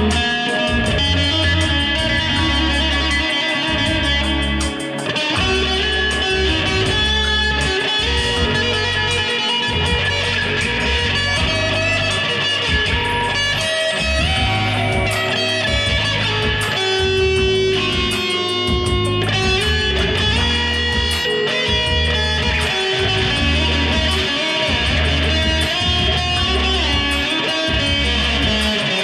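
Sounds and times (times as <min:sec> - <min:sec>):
deep bass part: 0:00.0 - 0:04.8, 0:05.4 - 0:28.8
electric guitar lead line: 0:00.0 - 0:29.0.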